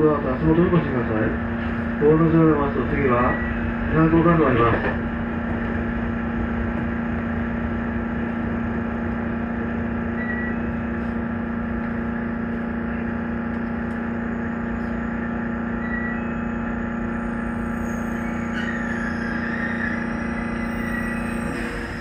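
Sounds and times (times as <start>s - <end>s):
train low hum: 0.0s - 22.0s
wheels rumbling on rail: 0.0s - 22.0s.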